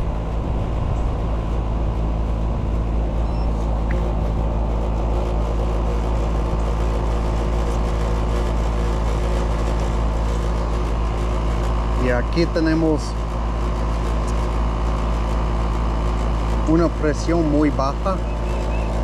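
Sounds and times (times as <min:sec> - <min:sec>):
compressor humming: 0:00.0 - 0:19.0
condenser fan whoosh: 0:00.0 - 0:19.0.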